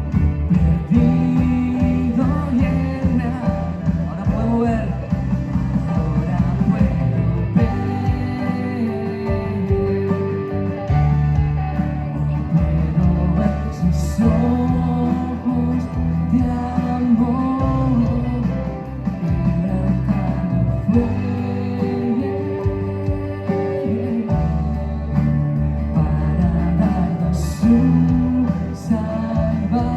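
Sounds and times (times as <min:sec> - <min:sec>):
people singing: 0:00.0 - 0:11.6, 0:12.2 - 0:29.9
bass guitar low notes: 0:00.0 - 0:29.9
guitars playing: 0:00.0 - 0:29.9.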